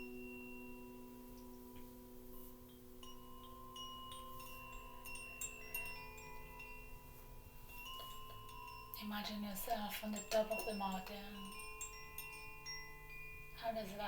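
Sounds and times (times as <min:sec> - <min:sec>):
singing bowl humming: 0:00.0 - 0:14.0
small chimes tinkling: 0:00.0 - 0:14.0.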